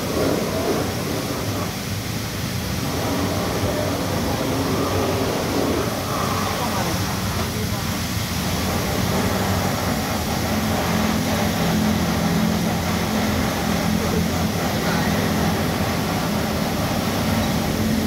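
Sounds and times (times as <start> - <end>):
motor and pump hum: 0.0 - 18.0
rushing hiss of water spray: 0.0 - 18.0.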